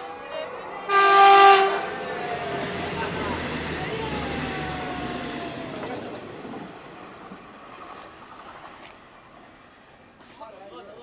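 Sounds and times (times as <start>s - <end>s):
train rumbling past: 0.0s - 10.3s.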